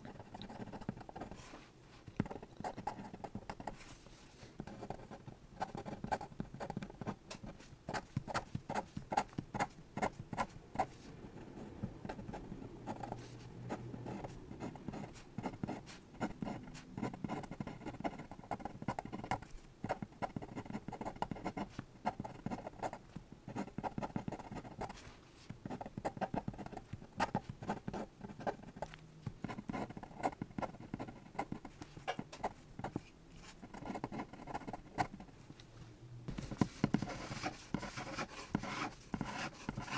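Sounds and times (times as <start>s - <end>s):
pen scratching on paper: 0.1s - 1.6s, 2.2s - 3.9s, 4.6s - 25.0s, 25.6s - 35.3s, 36.3s - 39.9s.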